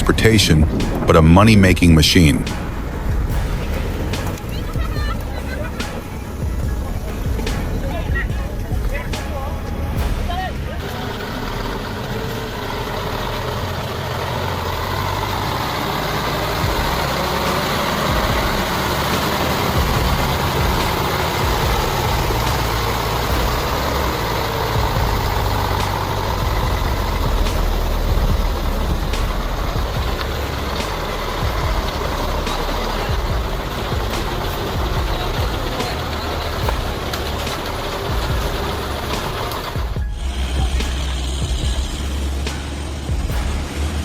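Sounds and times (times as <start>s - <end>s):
road noise: 0.0s - 44.0s
sharp knocks and rattles: 0.0s - 44.0s
truck engine running: 0.0s - 44.0s.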